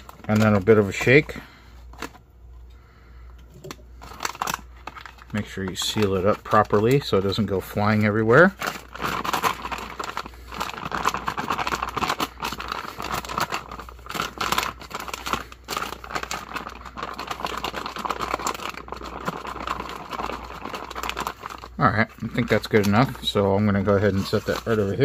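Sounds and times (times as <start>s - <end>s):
meal pouch crinkling: 0.0s - 2.3s, 3.9s - 25.0s.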